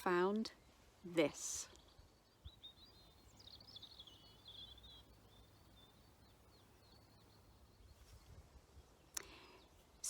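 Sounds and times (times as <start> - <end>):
distant birds twittering: 0.4 - 10.0.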